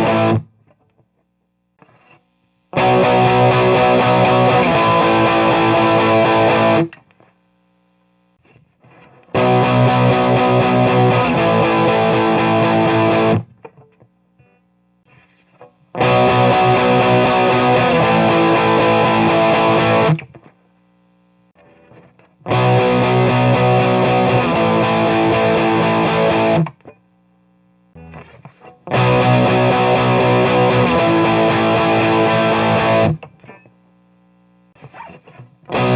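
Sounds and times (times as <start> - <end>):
distorted electric guitar riff: 0.0 - 0.5, 1.8 - 7.1, 8.4 - 20.5, 21.6 - 27.0, 28.0 - 35.9
faint amp hum: 0.0 - 35.9.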